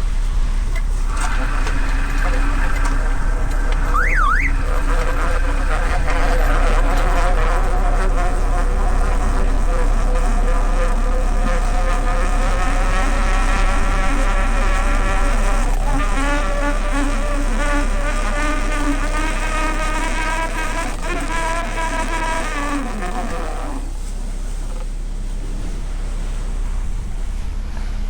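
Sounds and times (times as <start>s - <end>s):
motor buzzing whine: 0.0s - 28.0s.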